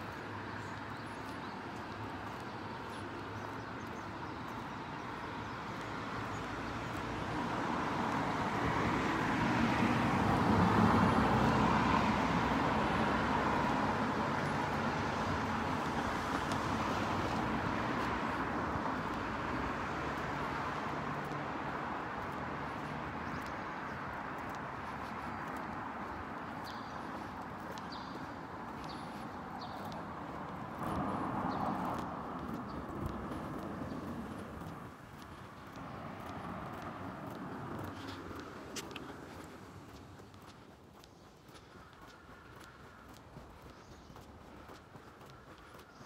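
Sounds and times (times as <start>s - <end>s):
low street hum: 0.0s - 46.0s
vehicle passing on road: 0.0s - 46.0s.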